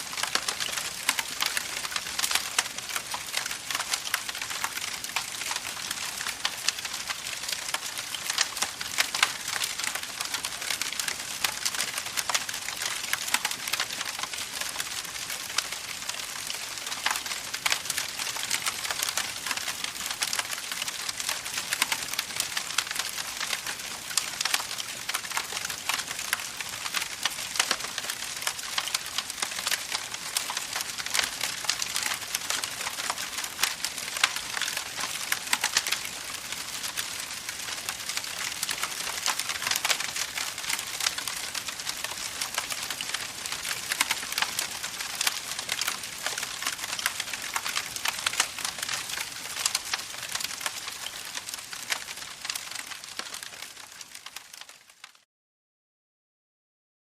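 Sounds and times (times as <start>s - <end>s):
campfire crackling and popping: 0.0s - 55.2s.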